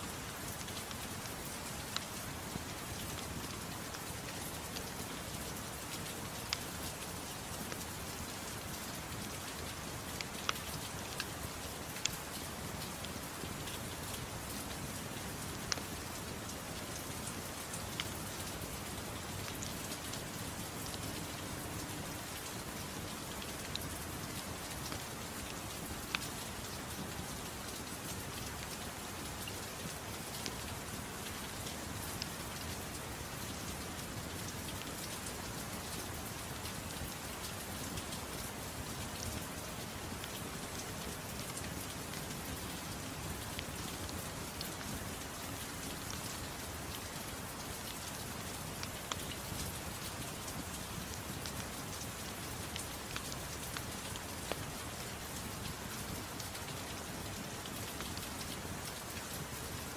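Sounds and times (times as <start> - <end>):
soft rain: 0.0 - 59.9.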